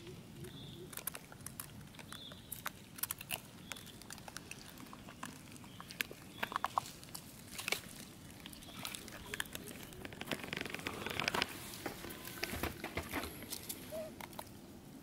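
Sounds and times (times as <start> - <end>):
macaques chewing food: 0.0 - 15.0.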